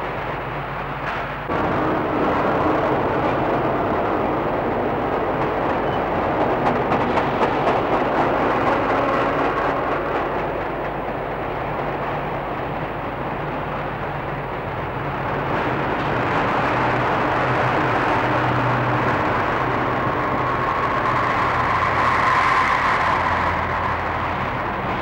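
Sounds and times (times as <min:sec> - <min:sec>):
vehicle rumbling: 0:00.0 - 0:25.0.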